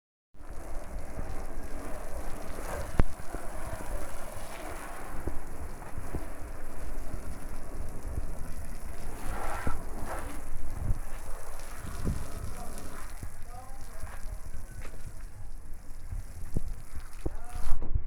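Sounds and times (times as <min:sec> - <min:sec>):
water spraying on a car: 0:00.4 - 0:17.8.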